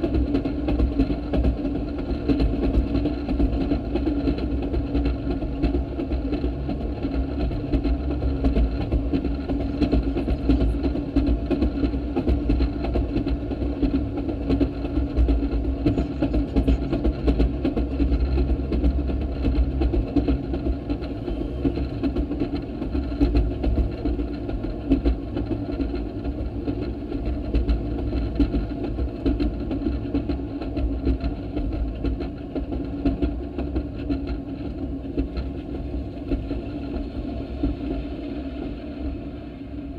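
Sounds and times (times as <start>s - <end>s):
clicks and rattles on rails: 0.0s - 39.9s
small engine drone: 0.0s - 39.9s.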